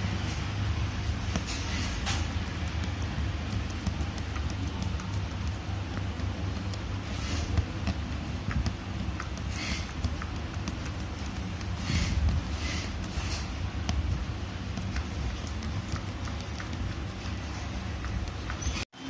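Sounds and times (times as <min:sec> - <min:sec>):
steady low hum: 0:00.0 - 0:18.8
needle ticking through fabric: 0:01.2 - 0:18.8
thread rasping through fabric: 0:01.2 - 0:18.8.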